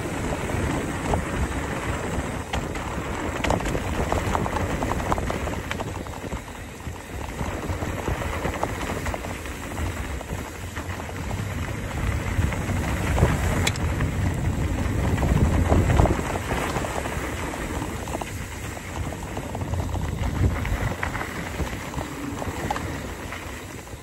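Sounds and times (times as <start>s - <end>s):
bike rattling: 0.0s - 24.0s
tyres rolling over gravel: 0.0s - 24.0s
wind buffeting microphone: 0.0s - 24.0s.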